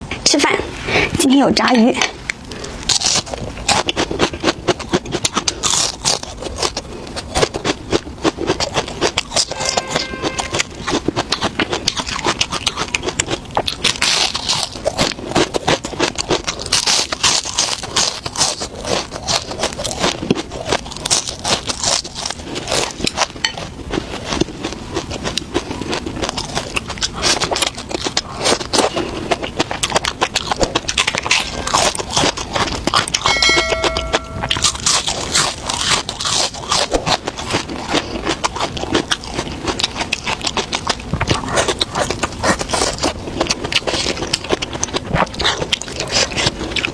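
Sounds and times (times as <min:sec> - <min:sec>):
crunching crispy fried fish: 0:02.3 - 0:09.6, 0:10.5 - 0:33.3, 0:34.6 - 0:46.9.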